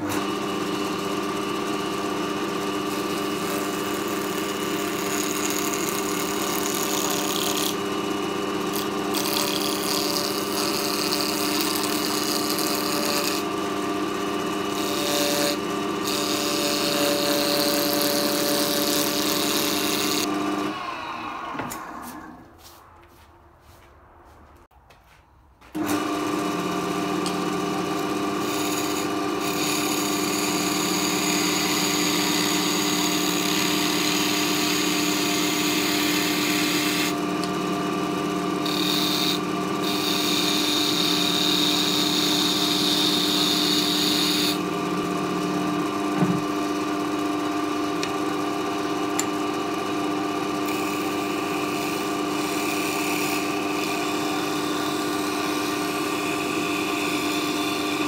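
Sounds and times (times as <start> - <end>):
wood lathe motor hum: 0.0 - 22.4, 25.8 - 58.0.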